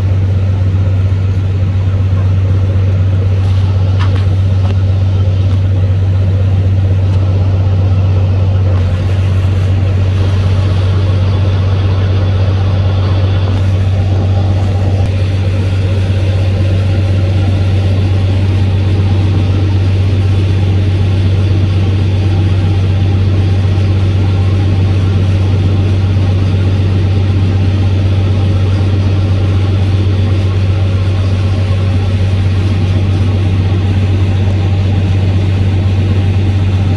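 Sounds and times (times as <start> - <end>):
vehicle engine droning: 0.0 - 36.9.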